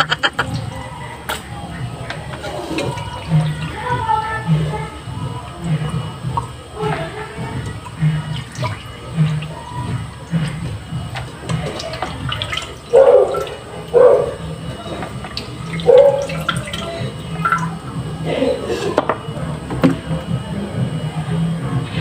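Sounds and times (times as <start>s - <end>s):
water splashing in washing machine: 0.0s - 22.0s.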